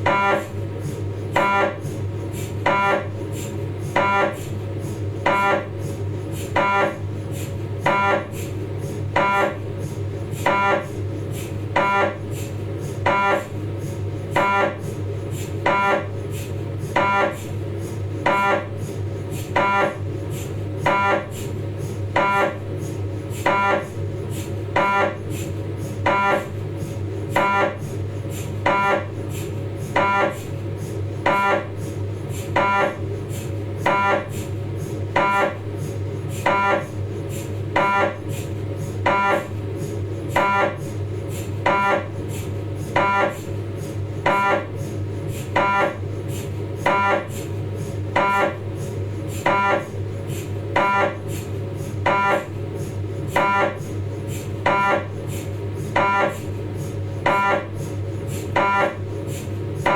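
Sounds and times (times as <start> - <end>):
mri scanner buzzing tone: 0.0 - 59.9
steady low hum: 0.0 - 59.9.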